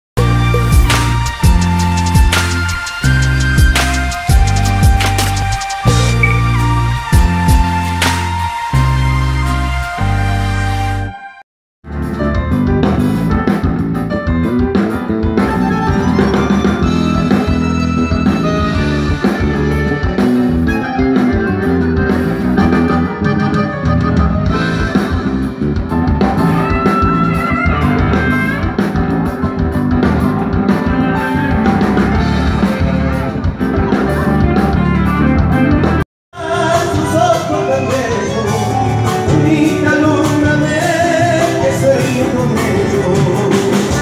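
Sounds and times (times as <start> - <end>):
guitar: 0.2 - 10.3, 11.9 - 44.0
drum kit: 0.2 - 10.6, 11.8 - 44.0
band playing through pa system: 0.2 - 10.9, 12.1 - 44.0.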